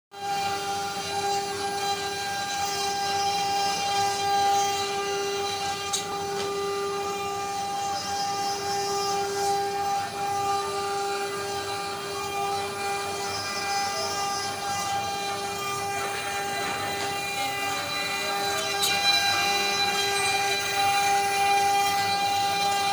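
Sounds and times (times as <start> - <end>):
router spindles whining: 0.1 - 22.9.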